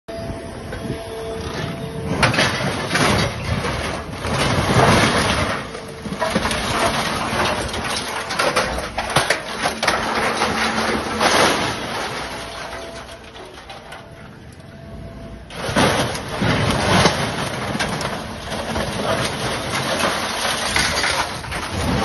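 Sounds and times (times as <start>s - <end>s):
scrap metal clattering and banging: 1.4s - 14.6s, 15.5s - 22.0s.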